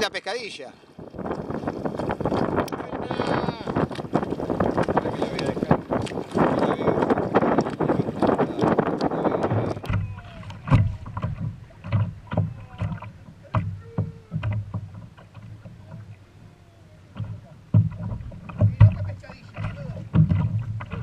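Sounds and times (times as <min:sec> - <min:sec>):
wind on microphone: 0:00.9 - 0:21.0
water knocking against kayak hull: 0:01.0 - 0:21.0.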